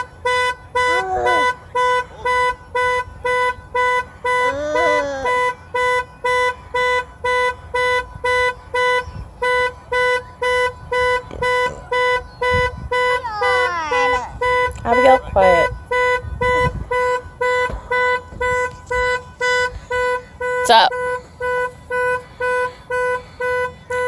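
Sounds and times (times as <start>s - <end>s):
car horn honking: 0.0s - 24.0s.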